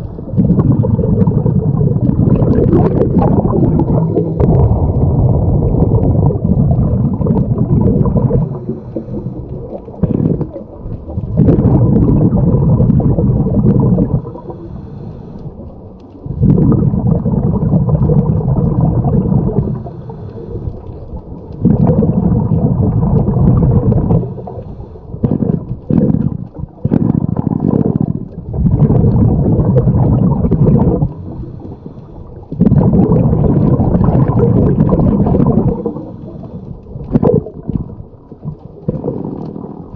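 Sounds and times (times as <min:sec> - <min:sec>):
air bubbling underwater: 0:00.0 - 0:14.8, 0:16.2 - 0:39.9.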